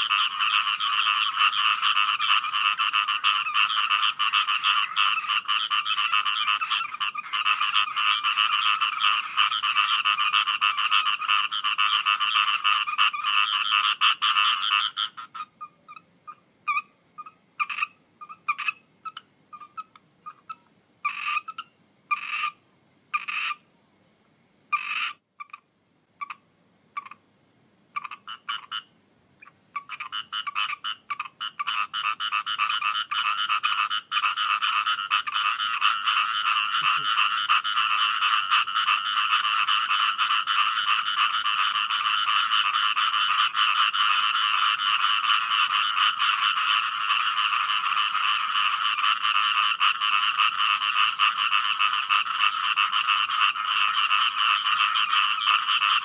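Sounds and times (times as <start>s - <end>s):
frogs calling: 0.0s - 56.0s.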